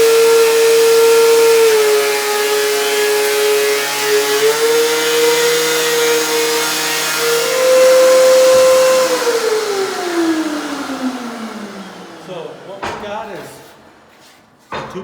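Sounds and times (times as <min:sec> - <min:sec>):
power tool cutting wood: 0:00.0 - 0:13.9.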